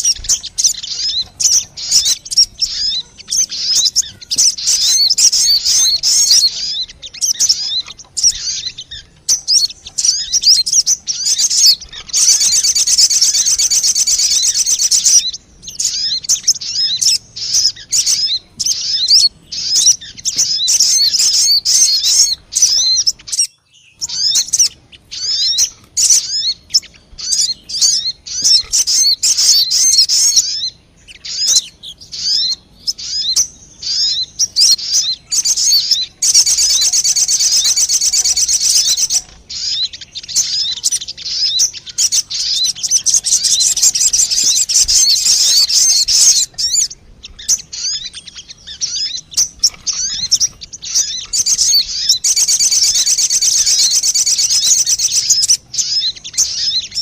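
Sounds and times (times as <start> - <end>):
bird lure chirps and trill: 0.0 - 57.0.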